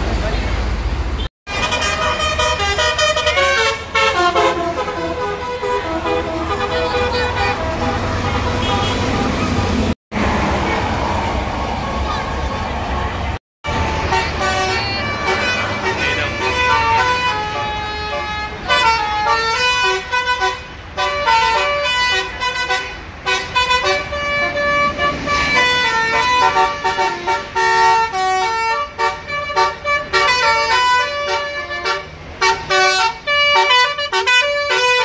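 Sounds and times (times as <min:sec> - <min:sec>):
multi-note air horn playing a tune: 0:01.5 - 0:09.1, 0:13.9 - 0:35.0.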